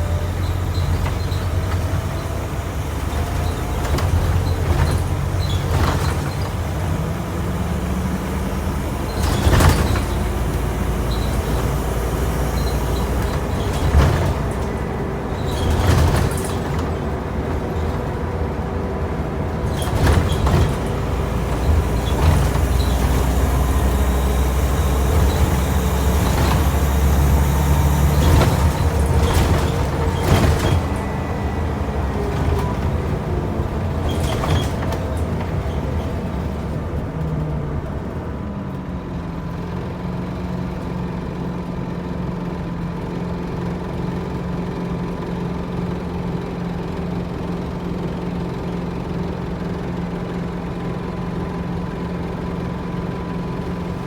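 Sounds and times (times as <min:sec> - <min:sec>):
bus body knocking and rattling: 0:00.0 - 0:54.0
bus diesel engine accelerating: 0:00.0 - 0:54.0.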